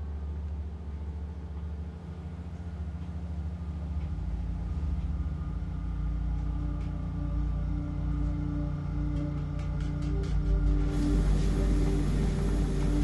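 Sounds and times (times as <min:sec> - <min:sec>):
droning background music: 0:00.0 - 0:13.0.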